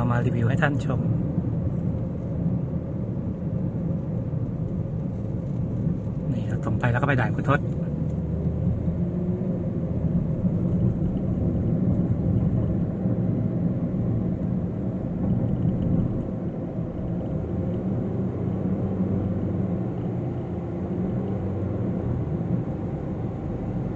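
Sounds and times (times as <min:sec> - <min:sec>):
car driving on highway: 0:00.0 - 0:23.9.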